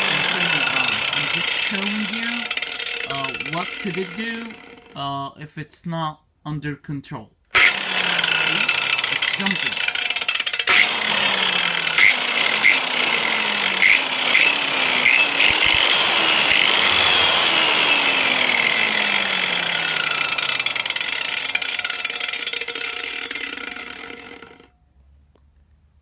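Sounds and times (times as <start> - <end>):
angle grinder whining: 0.0 - 5.1, 7.6 - 24.8.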